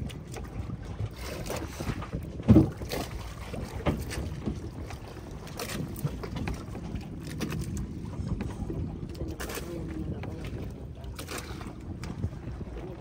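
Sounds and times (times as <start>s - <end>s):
water splashing against boat: 0.0s - 13.0s
wind buffeting microphone: 0.0s - 13.0s.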